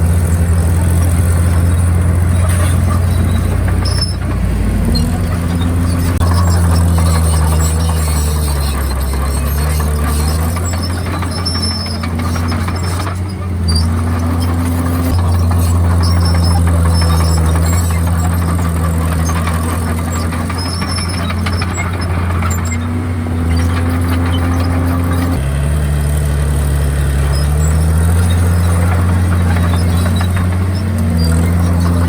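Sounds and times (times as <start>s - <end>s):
bulldozer diesel engine working: 0.0s - 32.0s.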